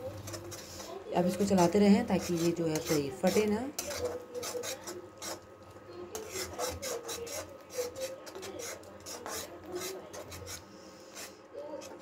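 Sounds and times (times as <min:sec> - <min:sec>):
metal spatula scraping a pan: 0:00.0 - 0:05.5, 0:06.1 - 0:12.0.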